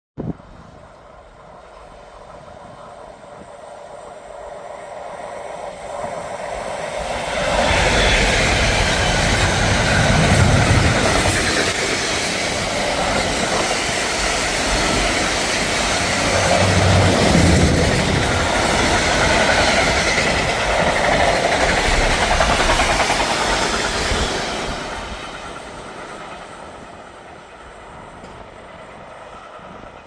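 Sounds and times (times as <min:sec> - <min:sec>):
electric train passing: 0:00.3 - 0:30.0.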